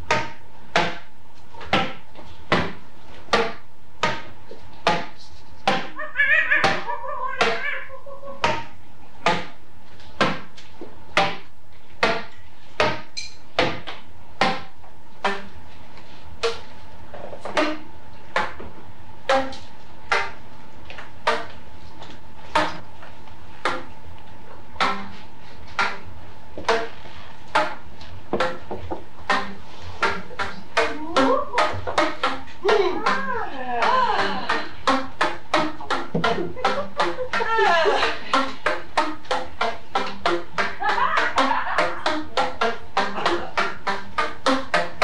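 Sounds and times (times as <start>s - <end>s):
tape recording hum: 0.0s - 45.0s.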